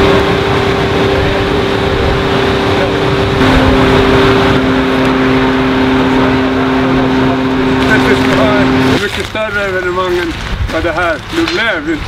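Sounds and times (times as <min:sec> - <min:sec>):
crane engine droning: 0:00.0 - 0:10.1.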